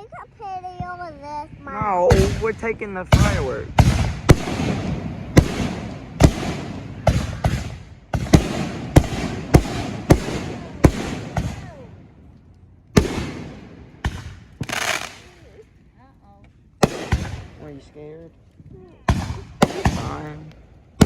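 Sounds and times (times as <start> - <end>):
fireworks banging: 0.6 - 15.9, 16.7 - 21.0.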